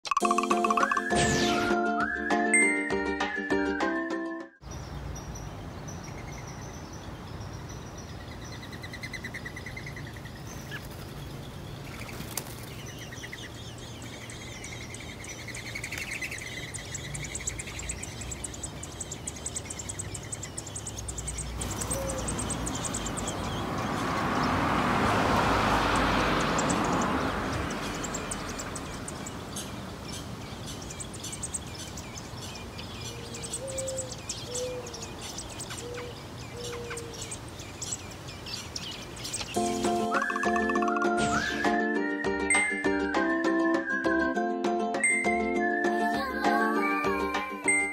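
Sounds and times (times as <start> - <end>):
birds chirping: 4.6 - 47.9.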